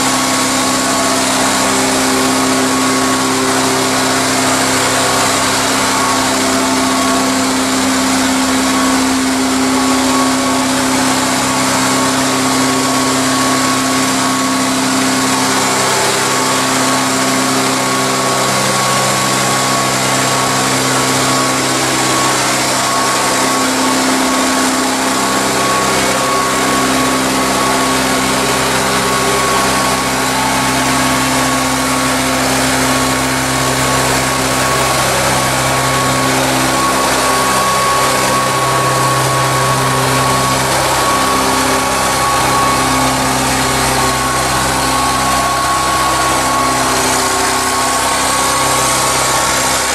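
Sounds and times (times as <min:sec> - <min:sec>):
high-pitched whine: 0:00.0 - 0:49.9
tractor engine running: 0:00.0 - 0:49.9.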